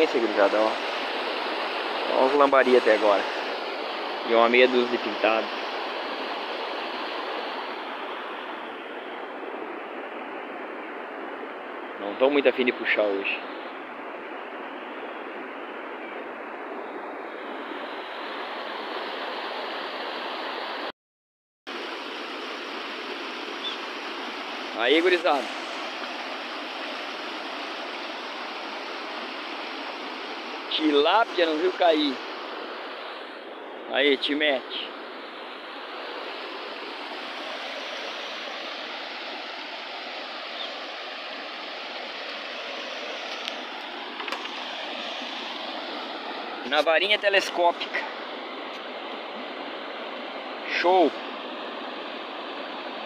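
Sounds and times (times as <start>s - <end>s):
steady rushing noise: 0.0s - 20.9s, 21.7s - 53.0s.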